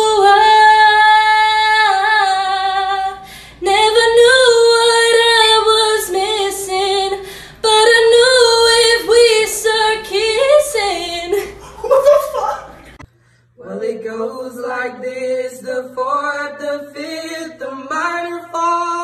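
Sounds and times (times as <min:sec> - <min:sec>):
young woman singing a cappella: 0:00.0 - 0:11.6, 0:13.6 - 0:19.0.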